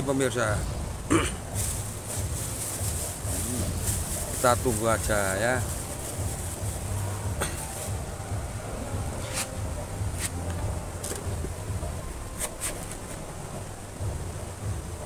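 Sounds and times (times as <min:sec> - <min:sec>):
faint steady high hum: 0:00.0 - 0:15.0
low uneven rumble: 0:00.0 - 0:15.0.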